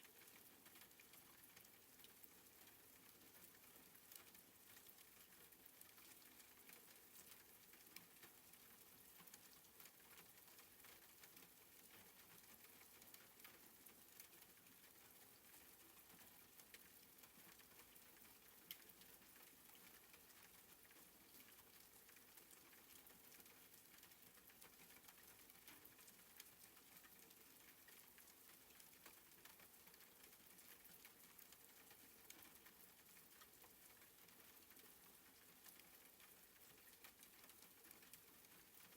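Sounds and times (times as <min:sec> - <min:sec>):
soft rain patter: 0:00.0 - 0:38.9.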